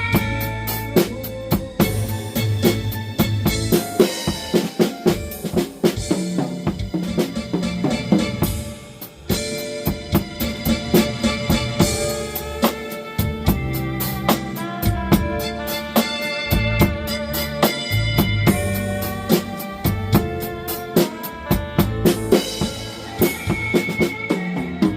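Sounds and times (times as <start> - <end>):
blues backing track: 0.0 - 24.9
drum kit playing blues groove: 0.0 - 24.9.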